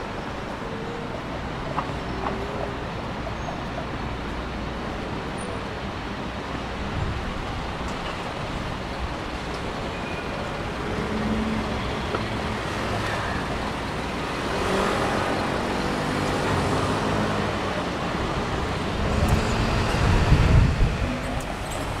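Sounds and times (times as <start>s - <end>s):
street traffic passing: 0.0s - 22.0s.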